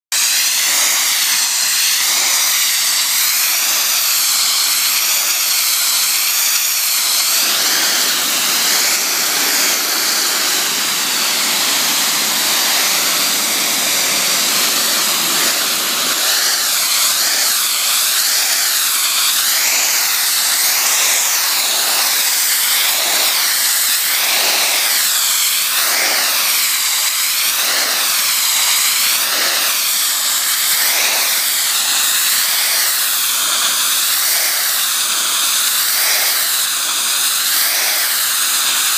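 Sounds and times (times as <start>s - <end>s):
pressure washer spray on pavers: 0.1s - 38.9s.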